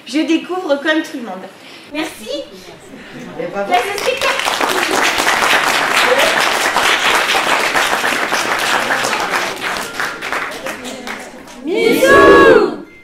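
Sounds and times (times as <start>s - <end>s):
audience applauding: 2.0s - 12.8s.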